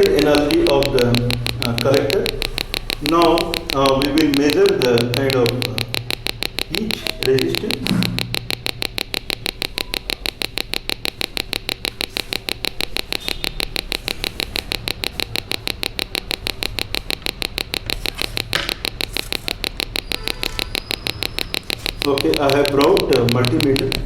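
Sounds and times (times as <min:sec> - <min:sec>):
sharp clicks from small speaker: 0:00.0 - 0:24.0.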